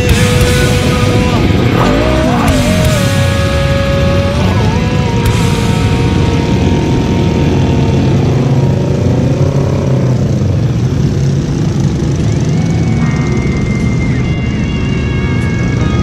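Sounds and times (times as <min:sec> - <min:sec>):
motorcycle engines droning: 0:00.0 - 0:16.0.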